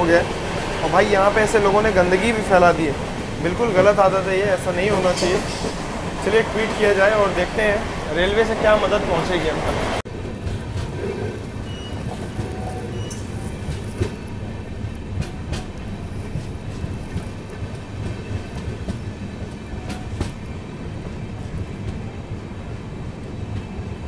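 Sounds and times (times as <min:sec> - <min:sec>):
wheels clacking over rail joints: 0:00.0 - 0:22.6
train wheels rumbling on rails: 0:00.0 - 0:24.0.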